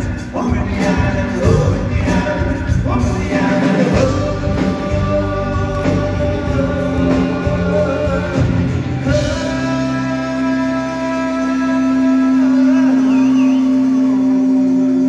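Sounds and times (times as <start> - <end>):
drums: 0.0 - 15.0
electric guitars: 0.0 - 15.0
person singing: 0.0 - 15.0.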